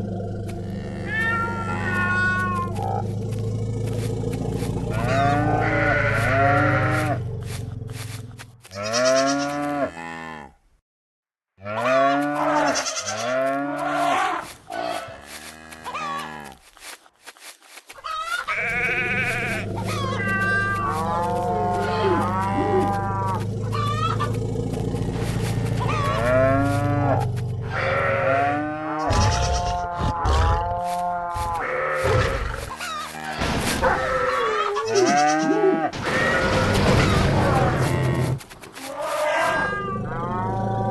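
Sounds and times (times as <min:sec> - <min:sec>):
cattle mooing: 0:00.0 - 0:10.6, 0:11.6 - 0:16.6, 0:18.5 - 0:36.7.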